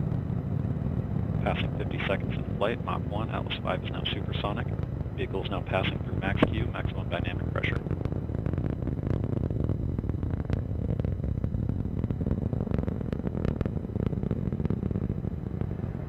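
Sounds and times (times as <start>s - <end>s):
rocket engine roaring and crackling: 0.0s - 16.0s.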